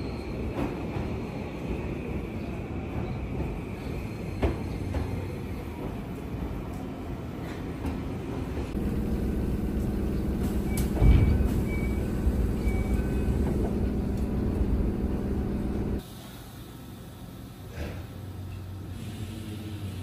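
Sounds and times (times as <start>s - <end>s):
train car humming: 0.0s - 20.0s.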